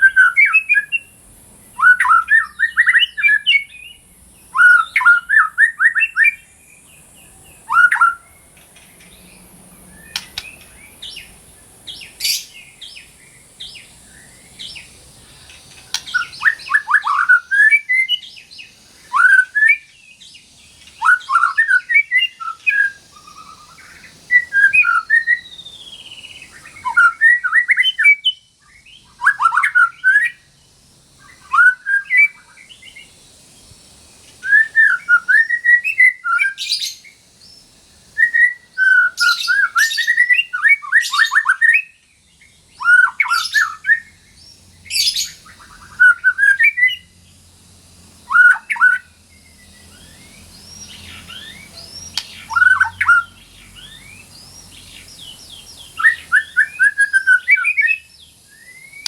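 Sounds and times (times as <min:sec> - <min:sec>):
songbird whistling song: 0:00.0 - 0:59.0.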